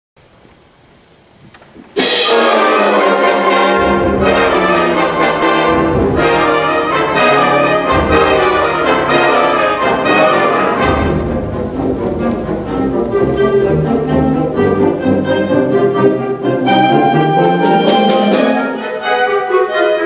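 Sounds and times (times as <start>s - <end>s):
low brass: 2.0s - 20.0s
wind band playing: 2.0s - 20.0s.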